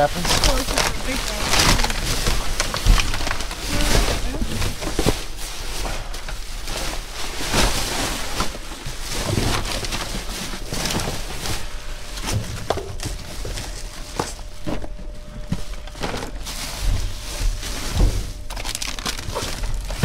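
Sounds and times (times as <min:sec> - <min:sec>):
cardboard boxes crackling and knocking: 0:00.0 - 0:20.0
plastic bags rustling: 0:00.0 - 0:20.0.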